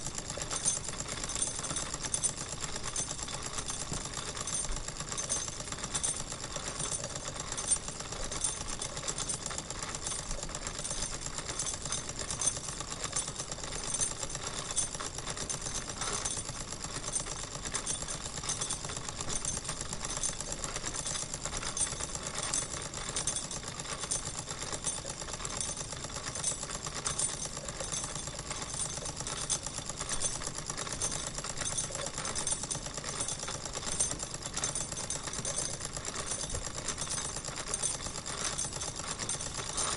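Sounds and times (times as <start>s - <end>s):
model steam engine clattering: 0.0s - 39.9s.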